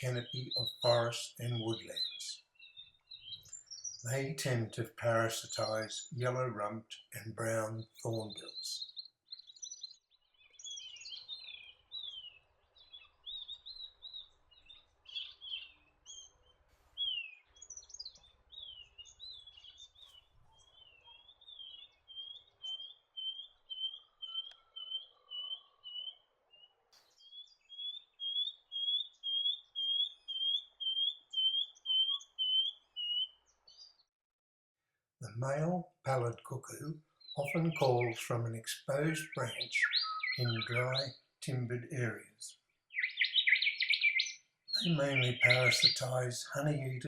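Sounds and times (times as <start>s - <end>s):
bird chirps: 0.0s - 34.1s, 35.2s - 47.0s.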